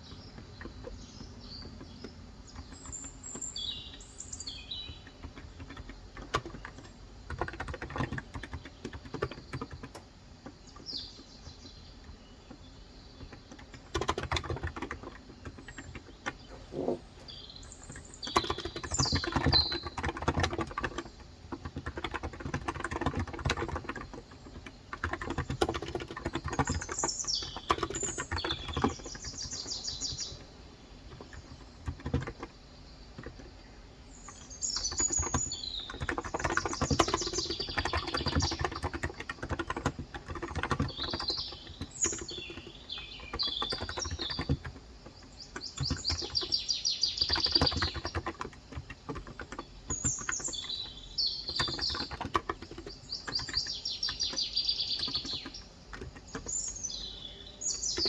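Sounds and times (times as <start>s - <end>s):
birds chirping and trilling: 0.0s - 58.0s
keyboard typing: 4.8s - 11.3s, 12.5s - 33.6s, 34.3s - 58.0s.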